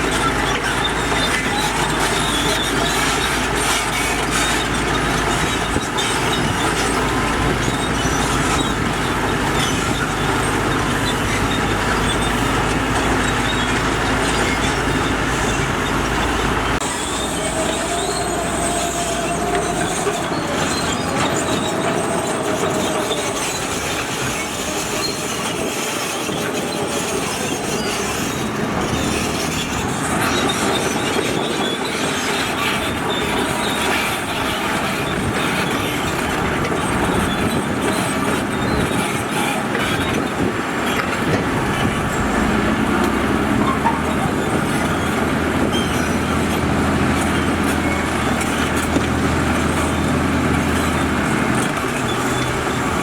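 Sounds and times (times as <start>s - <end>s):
diesel engine running: 0.0s - 53.0s
steel tracks clanking and squealing: 0.0s - 53.0s.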